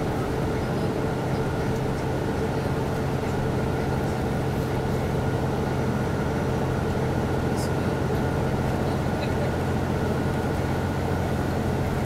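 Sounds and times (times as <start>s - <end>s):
diesel railcar engine drone: 0.0s - 12.0s
train running noise: 0.0s - 12.0s.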